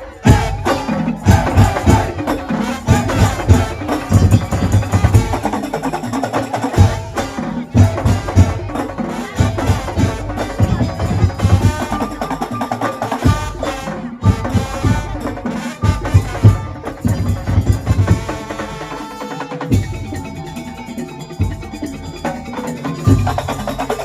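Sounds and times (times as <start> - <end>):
pitched melody: 0.0 - 24.0
rhythmic drums and wooden percussion: 0.0 - 24.0.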